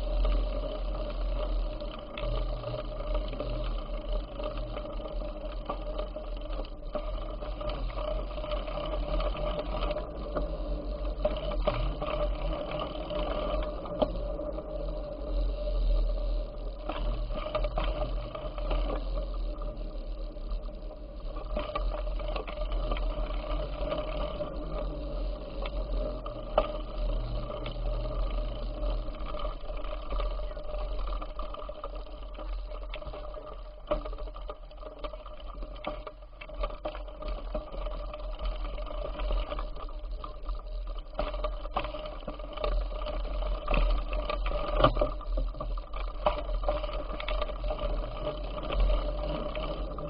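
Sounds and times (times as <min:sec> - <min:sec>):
bicycle whirring: 0:00.0 - 0:50.0.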